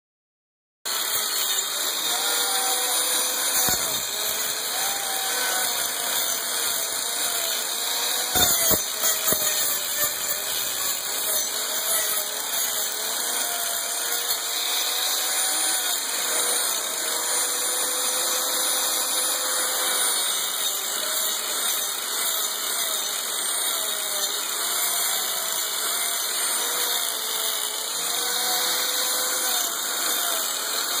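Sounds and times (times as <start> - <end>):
angle grinder cutting hoof: 0.9 - 31.0.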